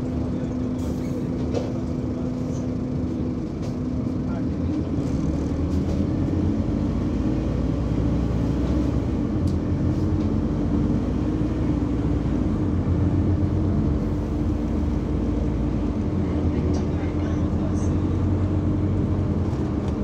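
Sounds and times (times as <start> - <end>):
bus engine hum and rumble: 0.0 - 20.0.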